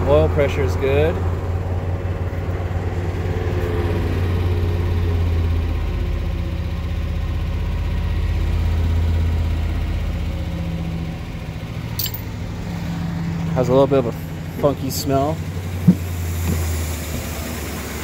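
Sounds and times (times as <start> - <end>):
engine at fast idle: 0.0 - 18.0.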